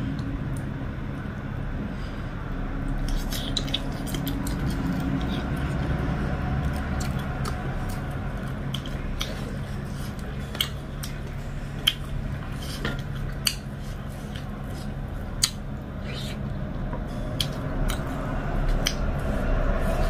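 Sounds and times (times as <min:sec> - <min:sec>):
chewing and wet mouth sounds: 0:02.8 - 0:20.0.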